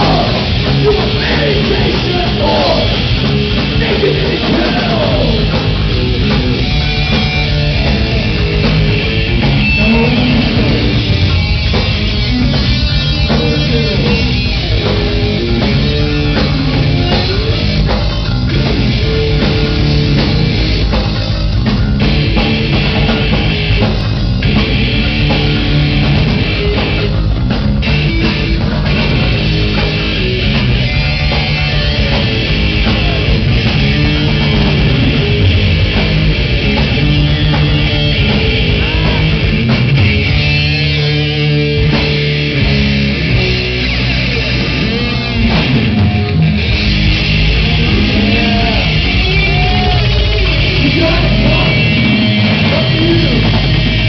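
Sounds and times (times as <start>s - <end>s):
distorted electric guitar: 0.0s - 54.0s
thrash metal band playing: 0.0s - 54.0s.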